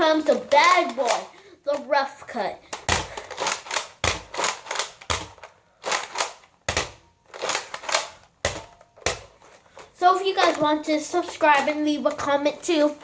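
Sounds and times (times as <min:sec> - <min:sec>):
toy blaster plastic clacks: 0:00.0 - 0:12.3.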